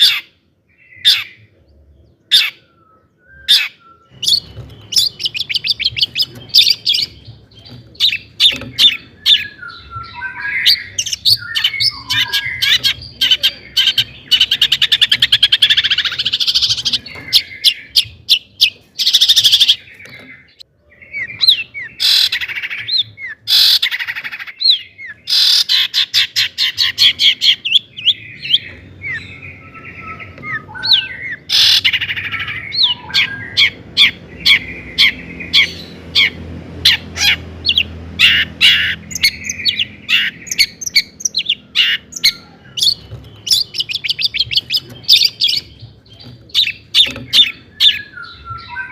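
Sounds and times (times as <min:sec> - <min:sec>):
bird singing chirps and trills: 0:00.0 - 0:48.9.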